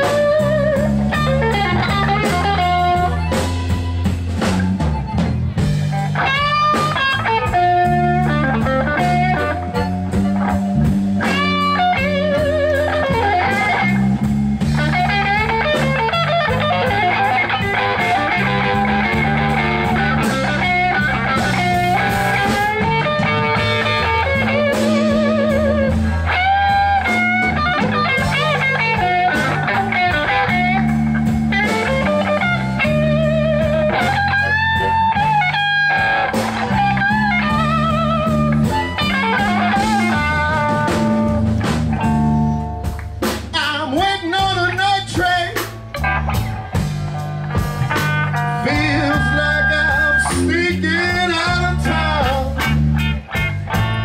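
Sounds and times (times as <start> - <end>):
blues band playing: 0.0 - 54.0
electric guitar lead: 0.0 - 54.0.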